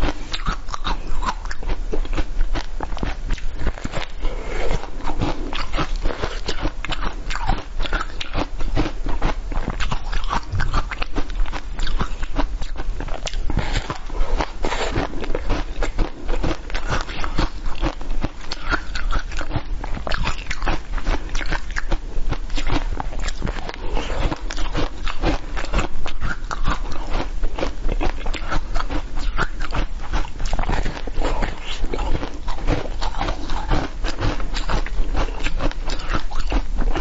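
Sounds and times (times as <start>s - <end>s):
crunchy chewing: 0.0s - 37.0s.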